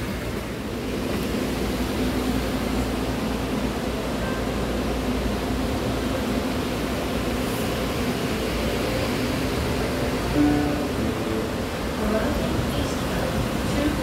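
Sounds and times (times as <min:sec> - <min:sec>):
light-rail car humming: 0:00.0 - 0:14.0.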